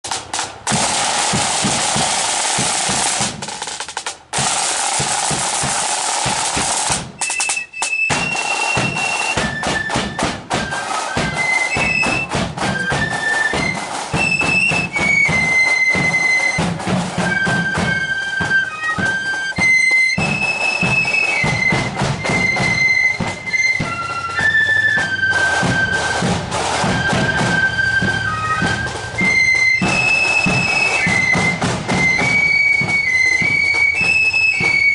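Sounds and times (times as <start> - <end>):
snare drum roll: 0.0 - 34.9
flutes playing high melody: 6.8 - 34.9.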